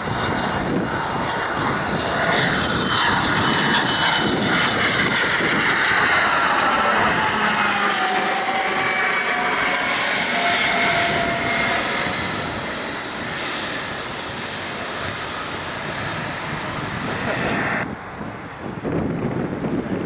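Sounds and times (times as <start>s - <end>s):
jet engines passing: 0.0s - 20.0s.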